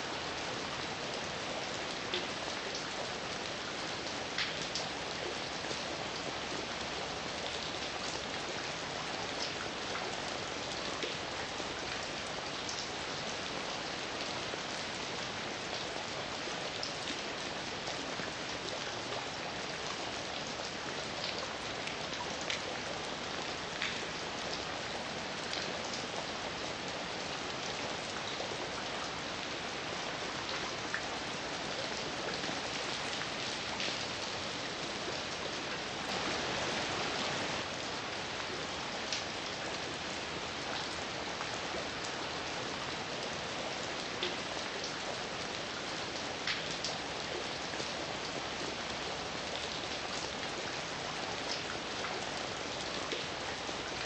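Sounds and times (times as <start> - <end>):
heavy rain falling: 0.0 - 54.0
raindrops hitting a surface: 0.0 - 54.0.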